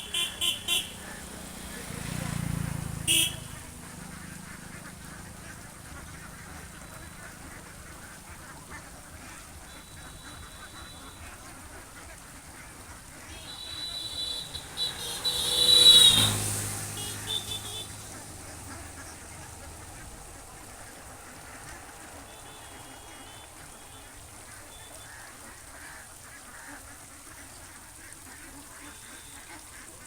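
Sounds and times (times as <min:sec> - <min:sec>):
ducks quacking: 0:00.0 - 0:30.0.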